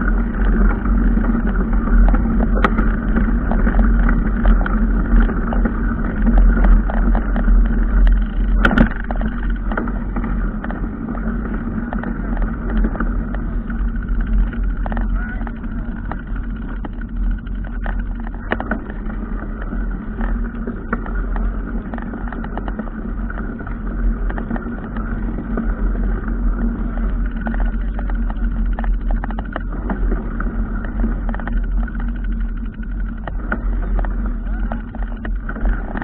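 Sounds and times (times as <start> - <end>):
clicks and rattles: 0.0 - 36.0
motor vehicle running: 0.0 - 36.0.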